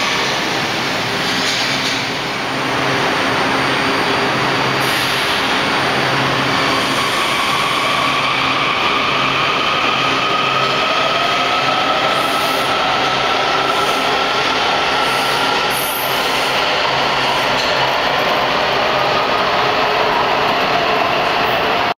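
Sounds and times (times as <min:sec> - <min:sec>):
subway train wheel noise: 0:00.0 - 0:22.0.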